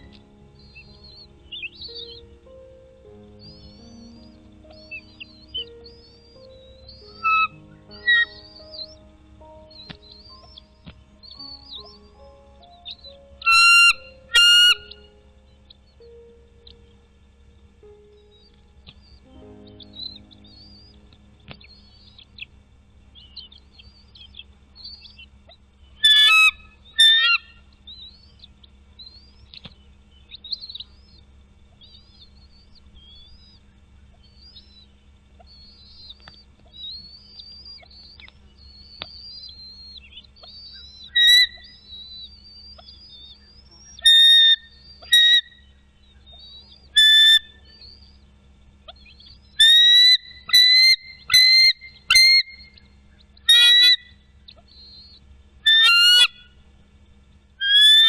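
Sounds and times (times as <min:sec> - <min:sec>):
eagle whistled calls: 0:00.0 - 0:16.9, 0:23.2 - 0:56.6, 0:57.6 - 0:58.0
faint songbird chirping: 0:00.0 - 0:58.0.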